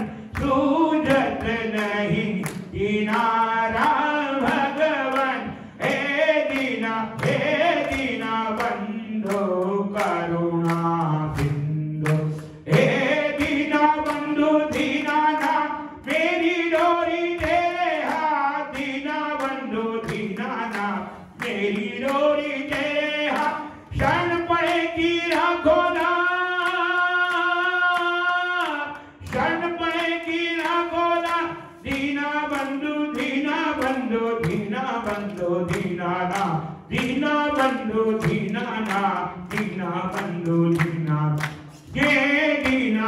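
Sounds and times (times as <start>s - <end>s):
clapping beat: 0.0s - 43.0s
group singing devotional song: 0.0s - 43.0s.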